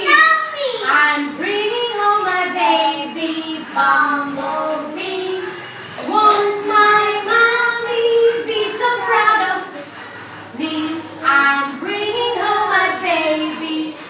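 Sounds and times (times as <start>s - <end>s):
woman and children singing: 0.0s - 14.0s.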